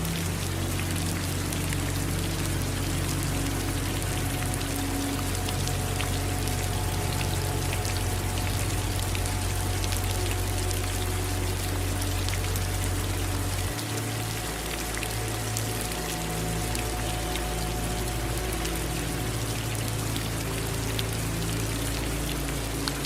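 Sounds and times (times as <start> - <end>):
low steady hum: 0.0 - 23.0
raindrops ticking close by: 0.0 - 23.0
steady rain: 0.0 - 23.0.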